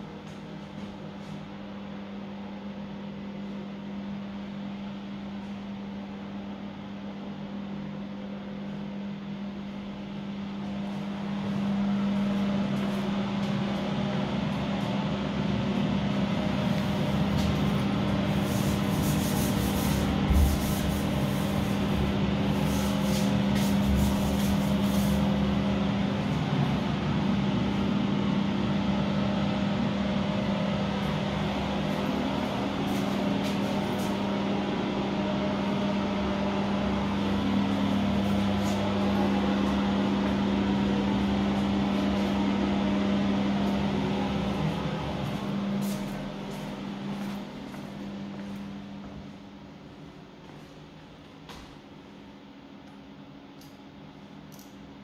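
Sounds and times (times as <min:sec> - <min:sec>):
electric fan humming: 0:00.0 - 0:55.0.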